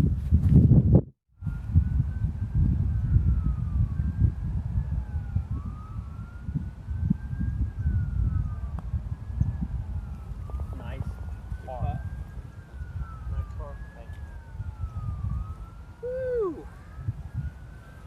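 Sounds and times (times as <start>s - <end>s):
distant siren wailing: 1.4s - 18.0s.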